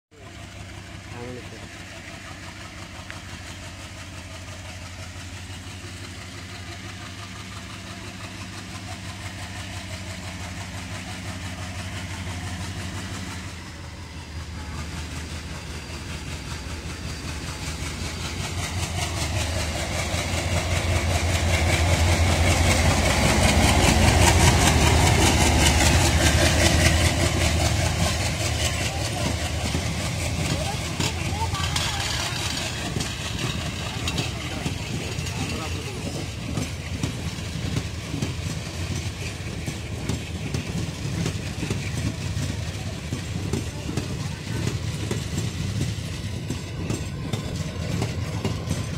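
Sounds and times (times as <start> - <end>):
diesel locomotive engine: 0.0 - 48.9
train wheels rattling over rails: 0.1 - 48.9.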